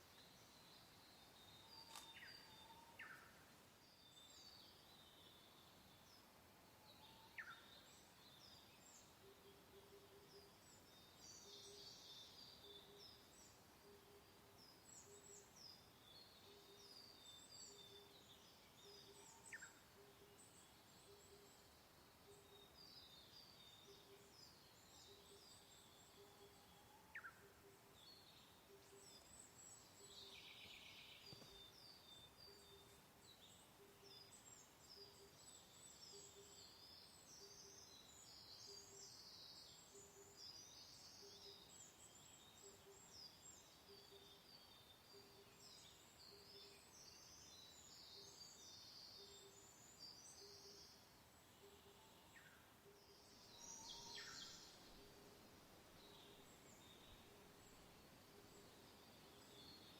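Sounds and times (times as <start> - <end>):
faint hiss: 0.0 - 59.9
small birds chirping: 0.0 - 59.9.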